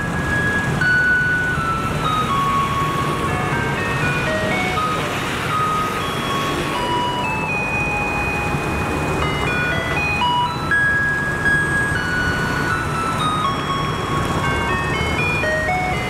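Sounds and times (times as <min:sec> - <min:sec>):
electronic melody over loudspeaker: 0:00.0 - 0:16.0
truck engine running: 0:00.0 - 0:16.0.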